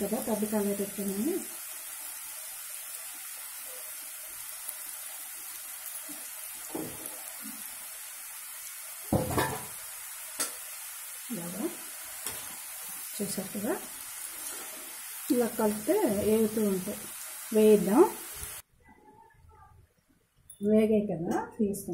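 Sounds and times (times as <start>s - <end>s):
dough sizzling in hot oil: 0.0s - 18.6s.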